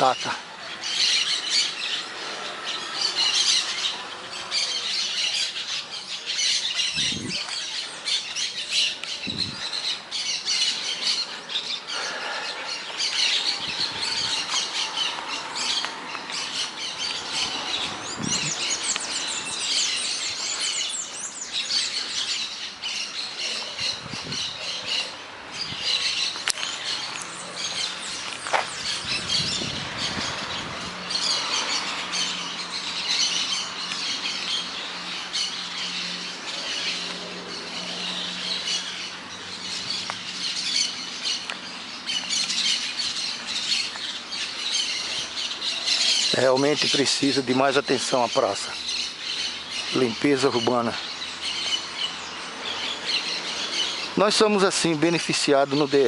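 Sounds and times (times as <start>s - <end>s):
parakeets squawking and chattering: 0.0s - 56.0s.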